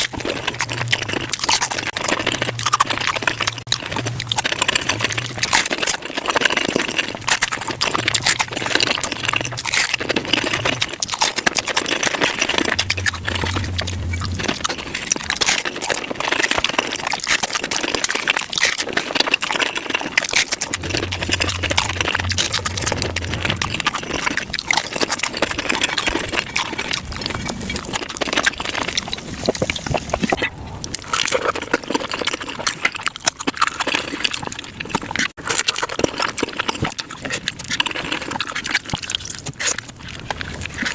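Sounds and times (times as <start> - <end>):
chewing and crunching food: 0.0 - 40.9
wet mouth sounds: 0.0 - 40.9.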